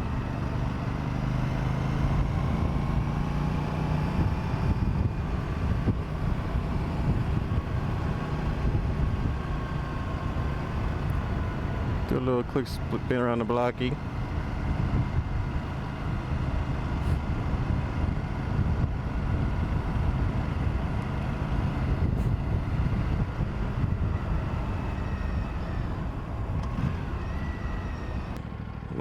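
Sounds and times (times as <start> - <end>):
motorcycle engine running: 0.0 - 29.0
wind rumble on microphone: 1.8 - 28.4.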